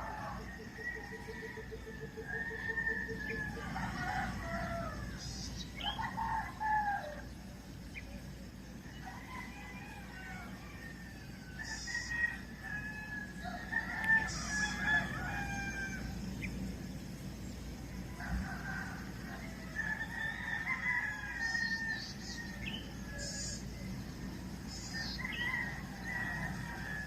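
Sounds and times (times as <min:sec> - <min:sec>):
rooster crowing: 0:00.0 - 0:07.4, 0:08.8 - 0:16.4, 0:17.8 - 0:24.0, 0:24.7 - 0:27.0
small birds chirping: 0:00.0 - 0:27.0.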